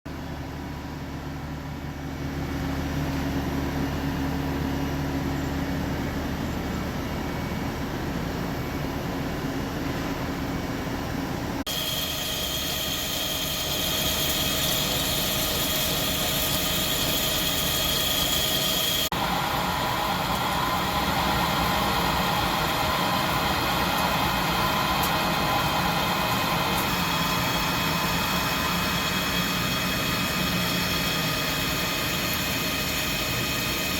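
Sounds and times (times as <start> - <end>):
high steady whine: 0.1 - 33.9
lathe whirring and humming: 0.2 - 33.9.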